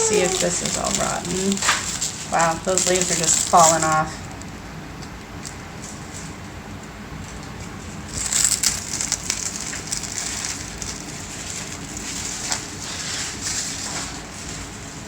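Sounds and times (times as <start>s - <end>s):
plastic packaging crinkling: 0.0s - 6.5s, 7.2s - 15.0s.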